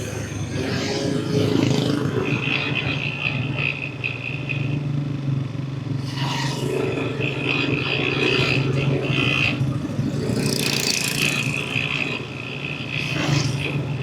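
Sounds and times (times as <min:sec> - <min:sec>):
road and wind noise: 0:00.0 - 0:14.0
scooter engine running: 0:00.0 - 0:14.0.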